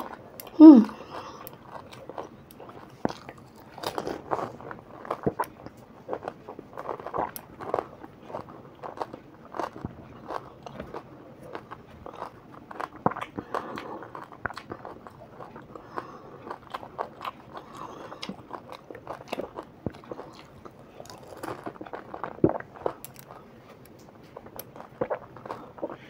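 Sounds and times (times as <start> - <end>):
crunching and chewing: 0.0 - 26.0.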